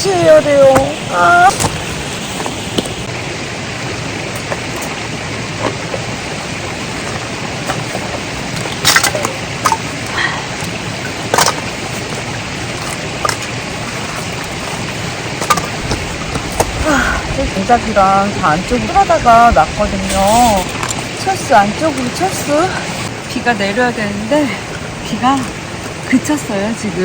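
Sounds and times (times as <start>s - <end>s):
mountain stream rushing: 0.0s - 27.0s
rain shower hissing: 0.0s - 27.0s.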